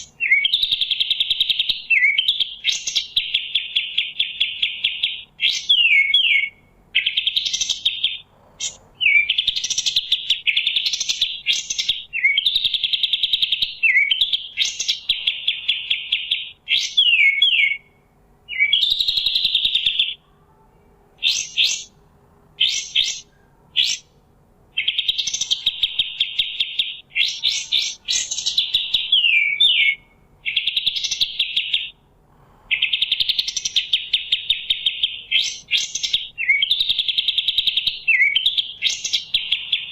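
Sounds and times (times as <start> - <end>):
songbird singing buzzy trills: 0.0 - 20.3, 21.1 - 32.1, 32.7 - 39.9.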